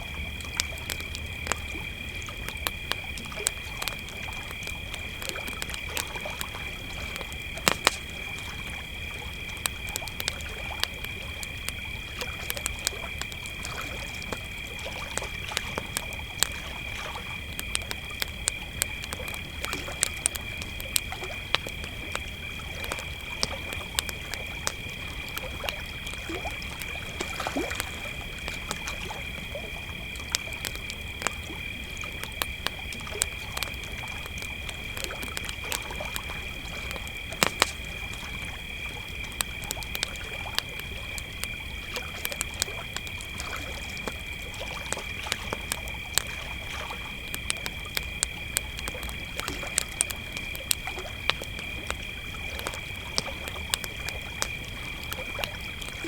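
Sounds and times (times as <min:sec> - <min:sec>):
crickets trilling: 0:00.0 - 0:56.0
wood campfire crackling: 0:00.0 - 0:56.0.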